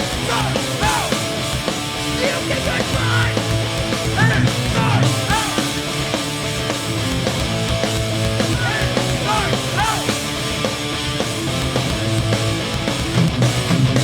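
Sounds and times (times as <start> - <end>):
bass guitar: 0.0 - 14.0
distorted electric guitars: 0.0 - 14.0
drums: 0.0 - 14.0.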